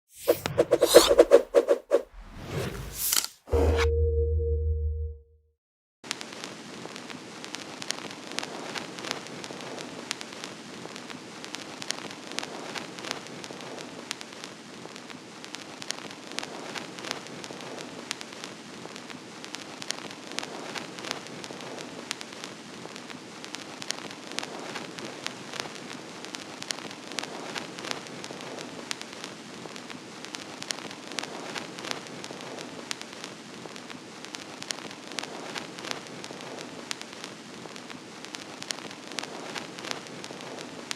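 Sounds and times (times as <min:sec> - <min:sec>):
vinyl record crackle and hiss: 0:06.0 - 0:40.9.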